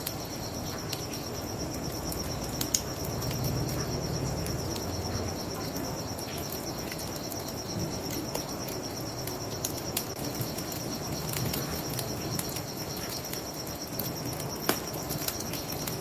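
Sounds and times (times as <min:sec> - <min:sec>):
crickets chirping: 0:00.0 - 0:16.0
wood fire crackling and popping: 0:00.0 - 0:16.0.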